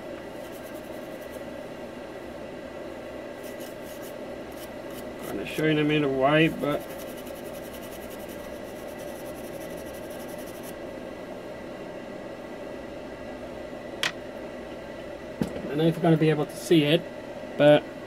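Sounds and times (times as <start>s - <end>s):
low hiss and hum: 0.0s - 18.0s.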